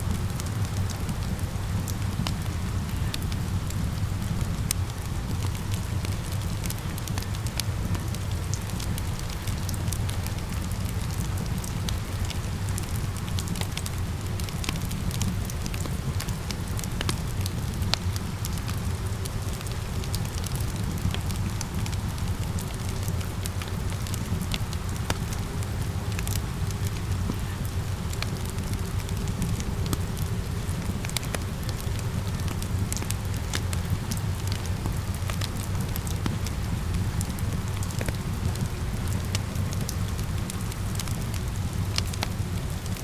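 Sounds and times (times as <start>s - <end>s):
rain hissing: 0.0s - 43.0s
wood fire crackling and popping: 0.0s - 43.0s.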